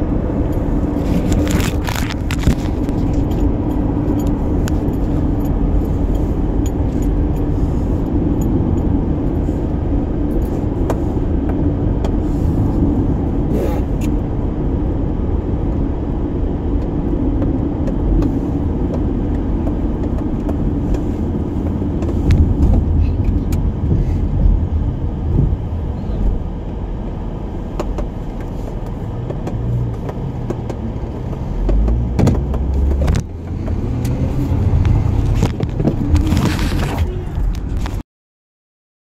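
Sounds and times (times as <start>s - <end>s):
tyre and engine rumble: 0.0s - 38.0s.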